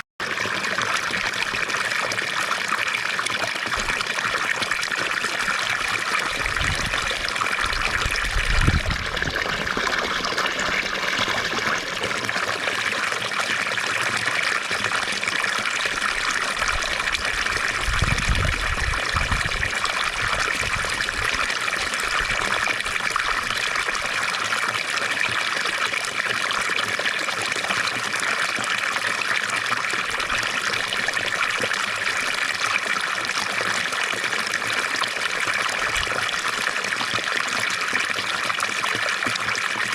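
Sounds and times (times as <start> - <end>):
fountain water trickling: 0.2 - 39.9.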